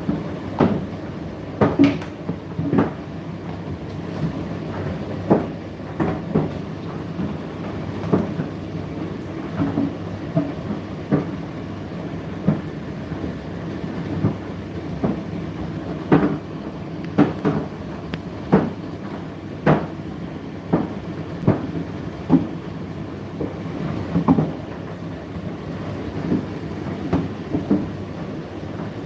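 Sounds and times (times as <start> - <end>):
tumble dryer motor hum: 0.0 - 29.0.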